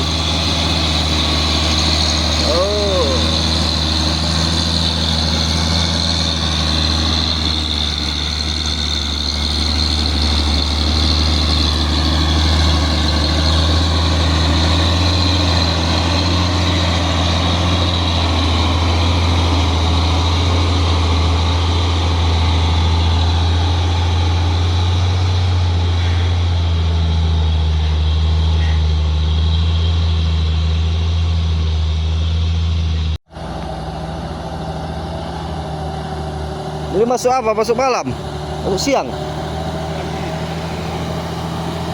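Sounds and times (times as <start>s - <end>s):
diesel truck engine pulling: 0.0s - 41.9s.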